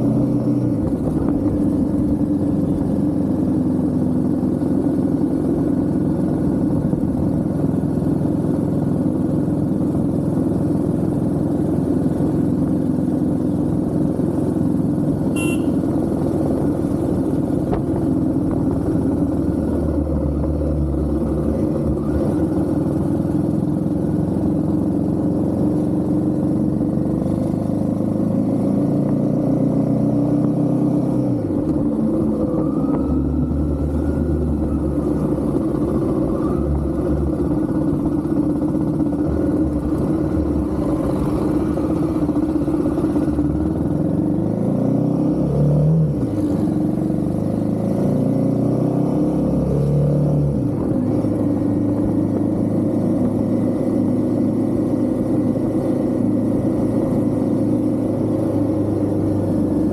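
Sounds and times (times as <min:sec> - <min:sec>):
motorcycle engine running: 0:00.0 - 0:45.4, 0:46.0 - 0:59.9.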